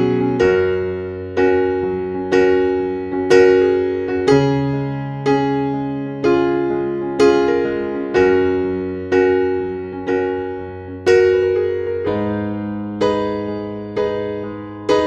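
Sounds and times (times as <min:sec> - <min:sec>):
slow keyboard chords: 0:00.0 - 0:15.0.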